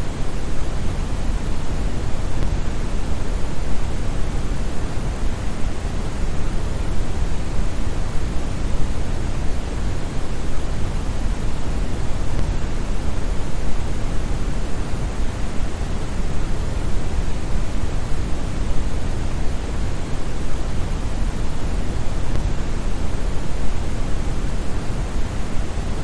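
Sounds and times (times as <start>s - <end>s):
brown noise hiss: 0.0s - 26.0s.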